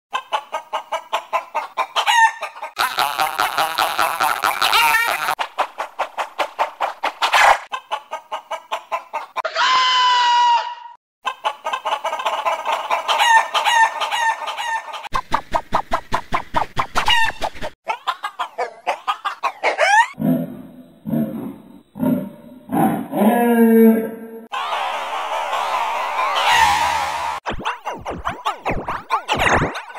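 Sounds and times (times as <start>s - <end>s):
hen clucking with audio effects: 0.1s - 29.9s.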